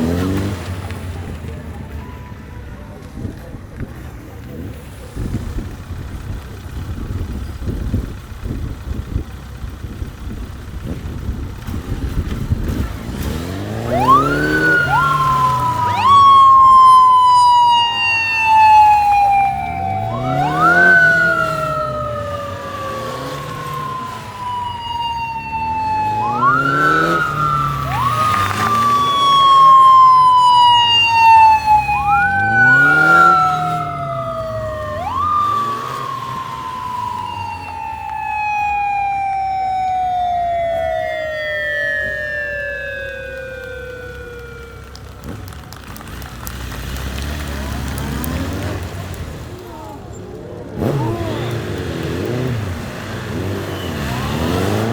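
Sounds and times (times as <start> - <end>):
motorcycle engines rumbling: 0.0 - 54.9
motorcycle sirens wailing: 0.0 - 54.9.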